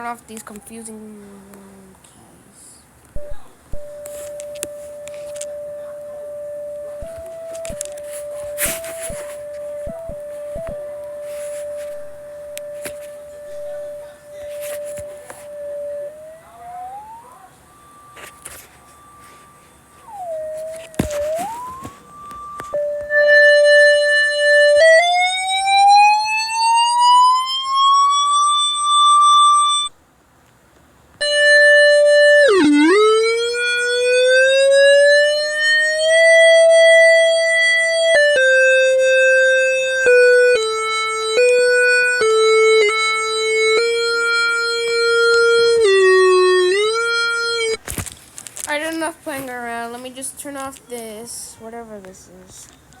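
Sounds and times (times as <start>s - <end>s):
keyboard imitating a siren: 3.2s - 30.0s, 31.2s - 47.8s.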